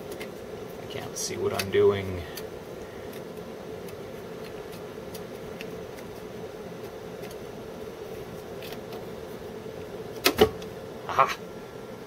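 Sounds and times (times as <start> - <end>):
computer hum: 0.0 - 12.0.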